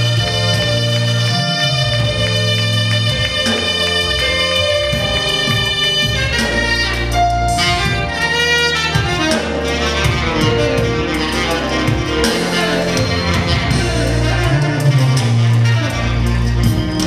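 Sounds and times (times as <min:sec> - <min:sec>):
saxophone melody: 0:00.0 - 0:17.0
sustained bass accompaniment: 0:00.0 - 0:17.0.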